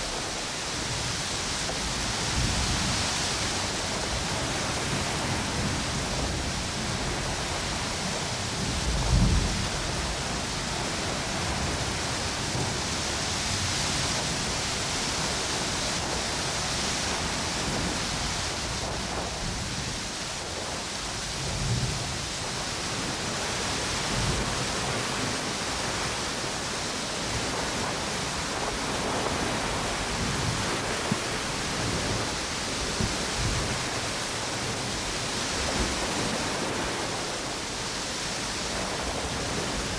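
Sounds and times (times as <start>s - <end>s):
ocean waves washing on beach: 0.0s - 39.9s
wind blowing through palm trees: 0.0s - 39.9s.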